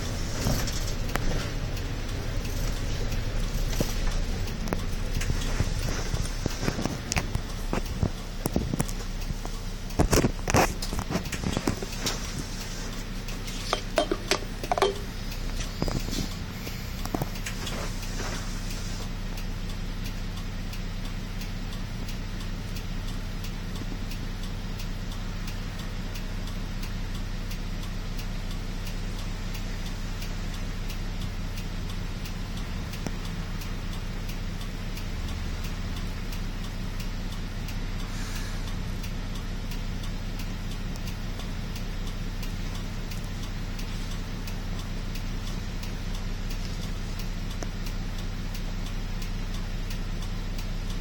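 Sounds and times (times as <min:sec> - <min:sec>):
bus engine idling: 0:00.0 - 0:51.0
faint regular ticking: 0:00.0 - 0:51.0.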